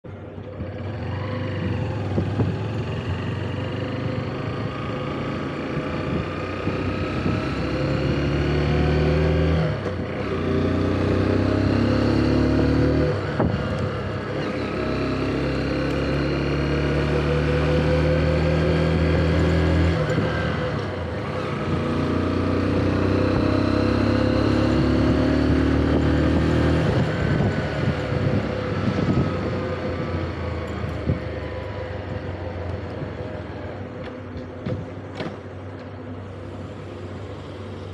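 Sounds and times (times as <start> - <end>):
motorcycle engine shifting gears: 0.1 - 36.1.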